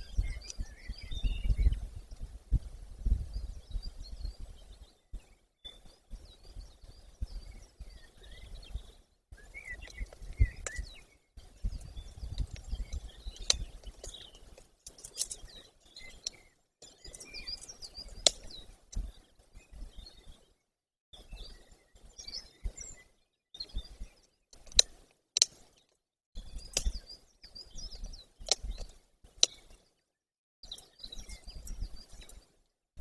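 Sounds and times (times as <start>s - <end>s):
birds chirping: 0.0s - 20.6s, 21.2s - 30.0s, 30.6s - 32.6s.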